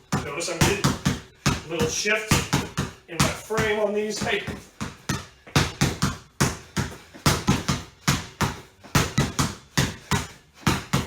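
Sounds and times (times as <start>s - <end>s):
basketball bouncing on floor: 0.0s - 11.0s.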